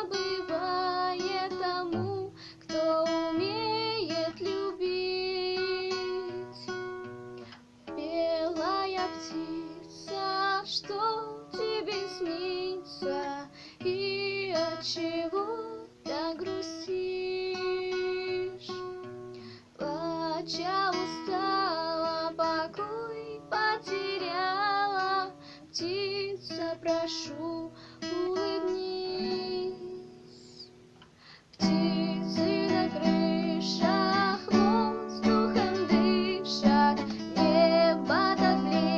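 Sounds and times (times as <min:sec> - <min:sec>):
woman singing: 0:00.0 - 0:07.2, 0:07.9 - 0:30.8, 0:31.5 - 0:38.9
plucked guitar: 0:00.0 - 0:38.9.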